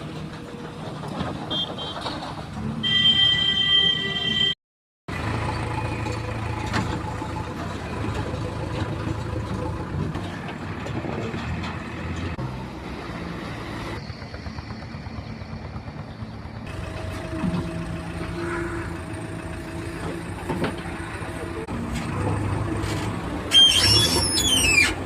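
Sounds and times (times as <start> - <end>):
excavator diesel engine running: 0.0 - 3.2, 5.1 - 25.0.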